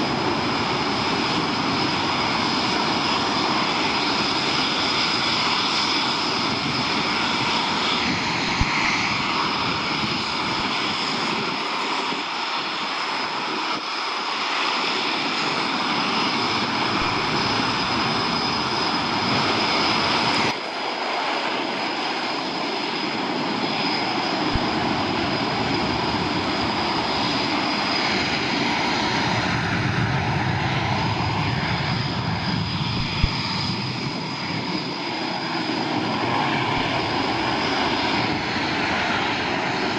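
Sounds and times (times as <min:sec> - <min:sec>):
high engine whine: 0:00.0 - 0:39.9
military jet engines roaring: 0:00.0 - 0:39.9.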